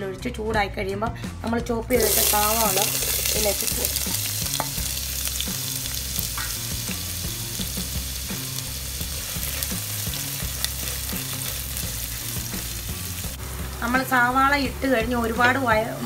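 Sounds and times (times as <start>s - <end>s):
onion sizzling in oil: 1.9s - 16.0s.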